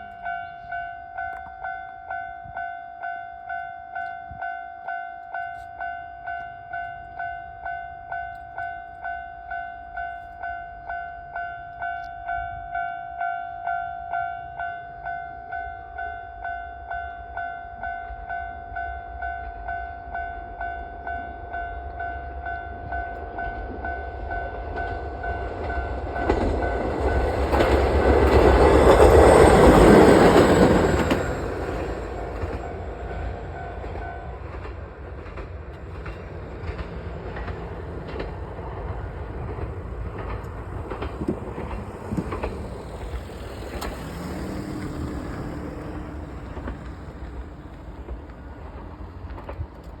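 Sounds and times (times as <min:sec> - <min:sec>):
crossing warning bell ringing: 0:00.0 - 0:35.0, 0:35.8 - 0:48.7
train passing: 0:00.0 - 0:50.0.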